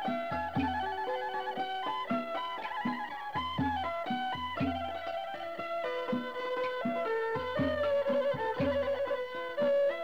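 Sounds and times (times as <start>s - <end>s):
plucked-string melody: 0.0s - 10.0s.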